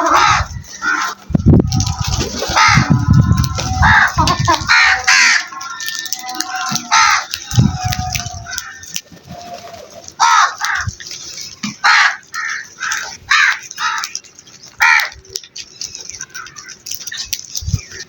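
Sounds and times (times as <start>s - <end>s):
crows cawing: 0.0s - 1.4s, 2.0s - 9.0s, 9.9s - 15.4s, 16.0s - 17.3s.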